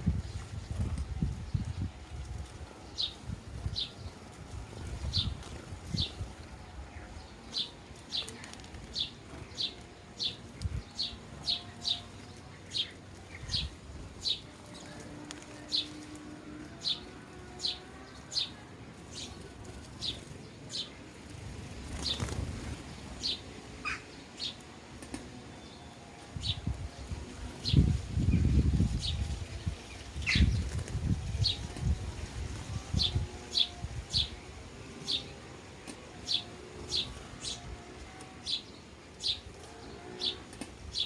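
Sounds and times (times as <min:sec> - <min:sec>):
sparrows chirping: 0:00.0 - 0:41.0.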